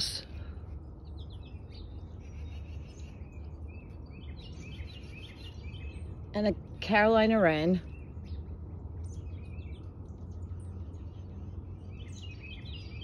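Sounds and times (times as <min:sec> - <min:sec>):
low background rumble: 0:00.0 - 0:13.0
songbirds chirping: 0:00.0 - 0:13.0.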